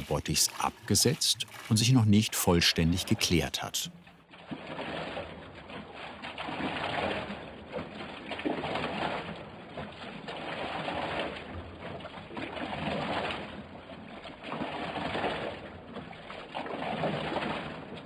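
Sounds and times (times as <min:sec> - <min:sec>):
liquid splashing and gurgling: 0:00.0 - 0:18.0.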